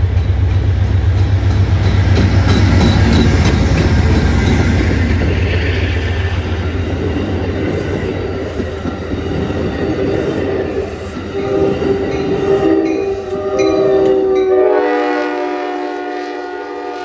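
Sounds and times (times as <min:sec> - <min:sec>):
train passing with rumble: 0:00.0 - 0:17.0.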